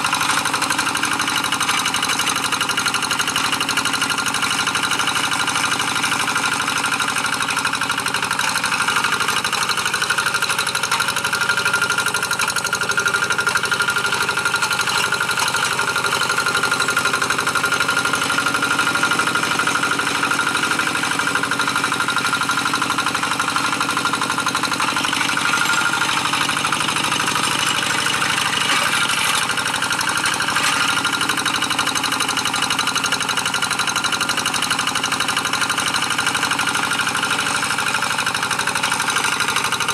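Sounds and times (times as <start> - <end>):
diesel engine knocking steadily: 0.0 - 39.9.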